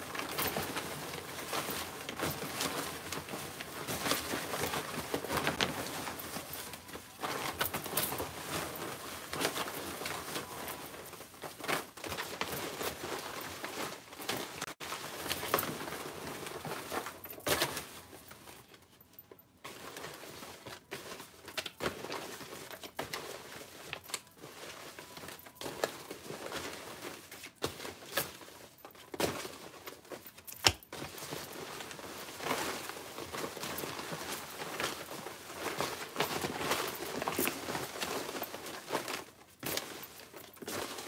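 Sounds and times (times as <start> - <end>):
paper slips rustling and crinkling: 0.0 - 18.8, 19.6 - 41.0.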